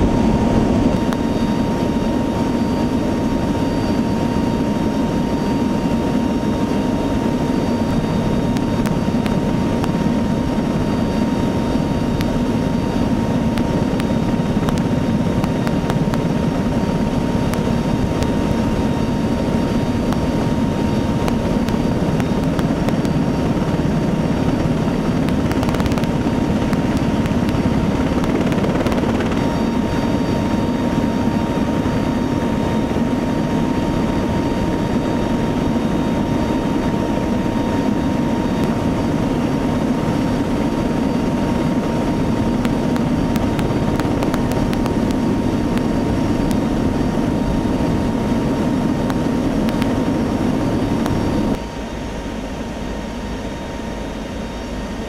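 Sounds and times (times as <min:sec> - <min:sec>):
thin whine: 0:00.0 - 0:55.0
turboprop engines droning: 0:00.0 - 0:55.0.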